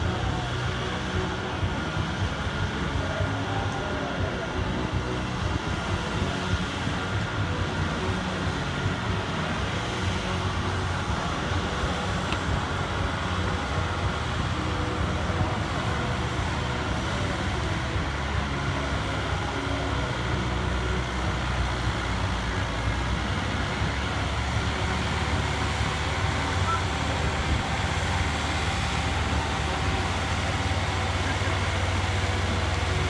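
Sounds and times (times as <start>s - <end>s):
tractor engine running hard: 0.0s - 33.0s.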